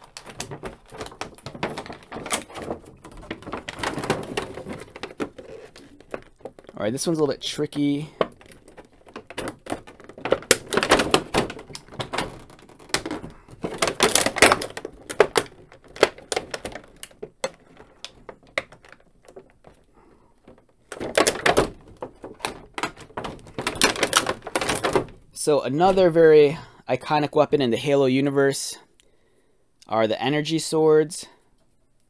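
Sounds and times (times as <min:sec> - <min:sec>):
plastic packaging crackling: 0:00.0 - 0:26.2.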